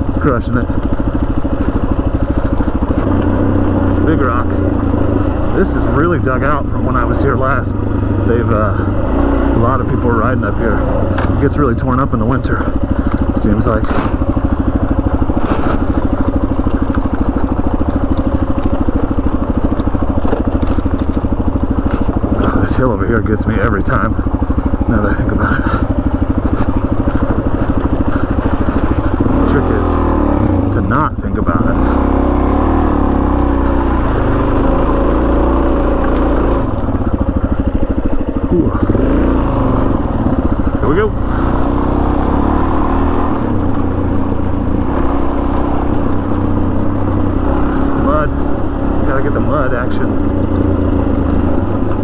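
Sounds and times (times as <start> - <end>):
exhaust pulsing: 0.0 - 52.0
motorcycle engine running: 0.0 - 52.0.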